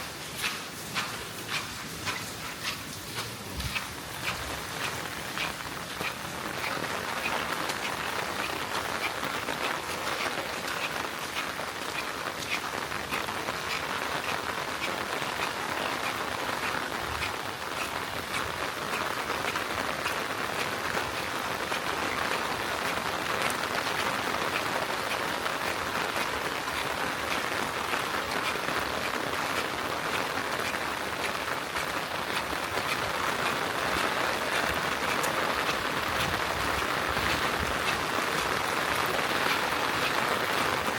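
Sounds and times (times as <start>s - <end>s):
rain hissing: 0.0s - 40.9s
raindrops ticking on a surface: 0.0s - 40.9s.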